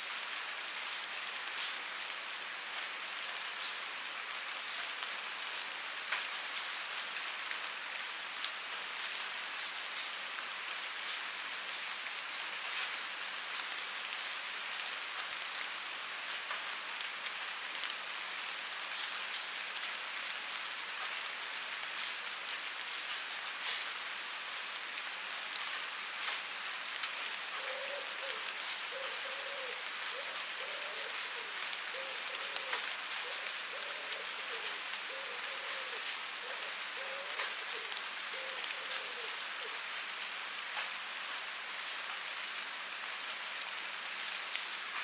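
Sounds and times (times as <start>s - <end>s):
steady rain hiss: 0.0s - 45.0s.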